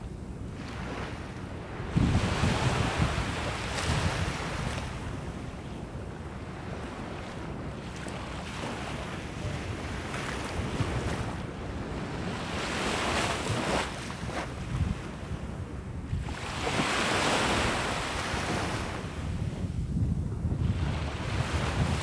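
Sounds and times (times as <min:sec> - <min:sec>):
wind buffeting microphone: 0:00.0 - 0:22.0
small waves breaking on beach: 0:00.4 - 0:15.2, 0:16.2 - 0:19.4.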